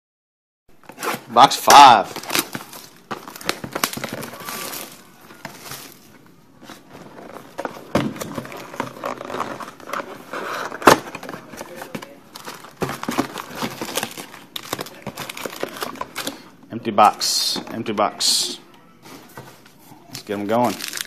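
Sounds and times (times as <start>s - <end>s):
plastic shrink wrap crinkling: 0.9s - 16.5s, 19.6s - 21.0s.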